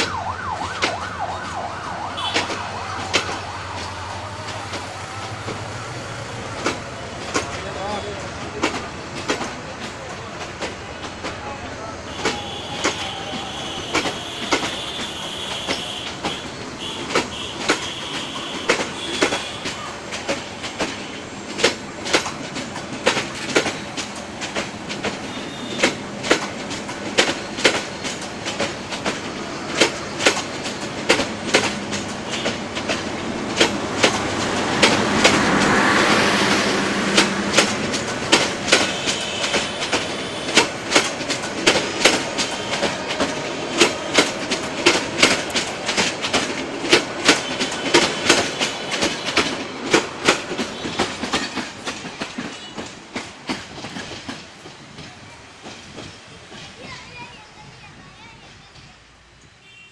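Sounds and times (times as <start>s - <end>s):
train wheels clicking over rail joints: 0.0s - 59.6s
train rumble: 0.0s - 59.8s.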